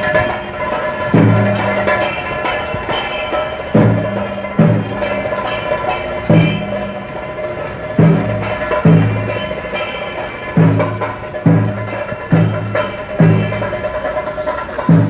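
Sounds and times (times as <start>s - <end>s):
cymbals ringing: 0.0s - 15.0s
deep booming drum strokes: 0.0s - 15.0s.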